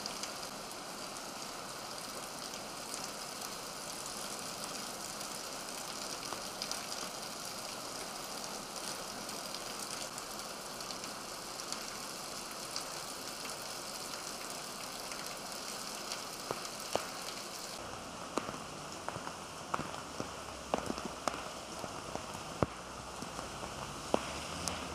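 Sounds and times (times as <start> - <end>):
heavy rain hissing on street: 0.0 - 24.9
raindrops splashing with sharp ticks: 0.0 - 24.9.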